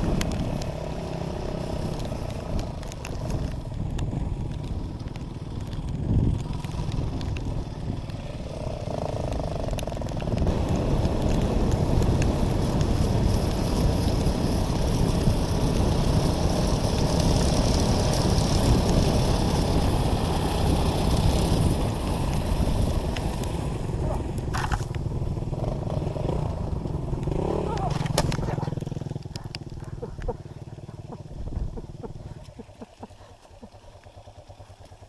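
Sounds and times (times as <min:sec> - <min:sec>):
wind noise: 0:00.0 - 0:08.6, 0:09.2 - 0:25.0, 0:29.4 - 0:33.7
dirt bike engine running: 0:00.0 - 0:35.0.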